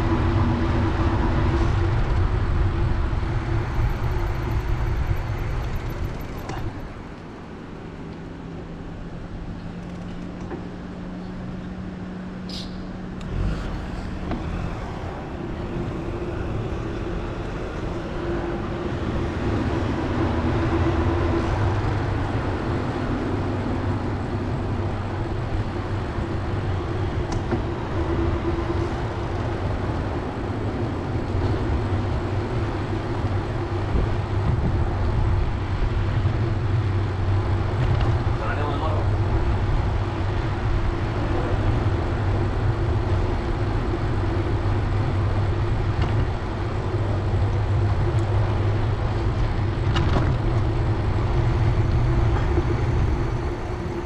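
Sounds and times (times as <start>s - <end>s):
street traffic noise: 0.0s - 54.0s.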